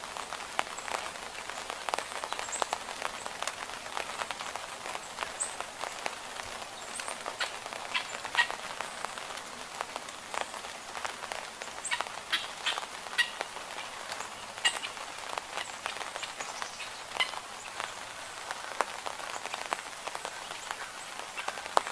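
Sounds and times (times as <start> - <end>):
rain falling: 0.0 - 21.9
raindrops clicking on surfaces: 0.0 - 21.9.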